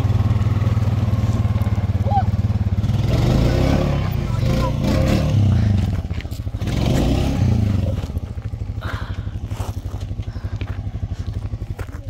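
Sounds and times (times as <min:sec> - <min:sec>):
atv engine puttering: 0:00.0 - 0:12.0.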